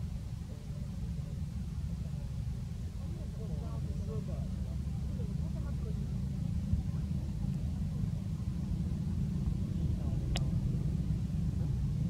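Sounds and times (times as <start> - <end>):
faint voices: 0.3 - 12.0.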